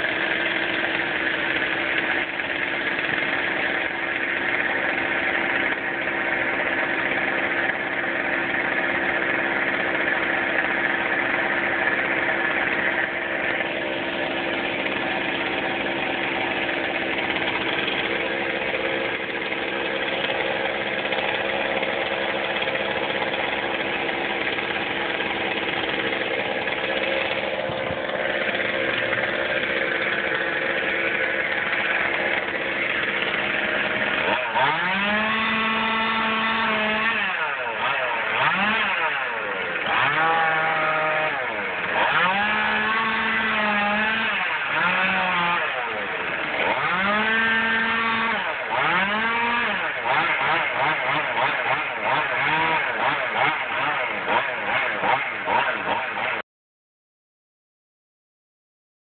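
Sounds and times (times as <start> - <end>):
chainsaw idling and revving: 0.0 - 56.4.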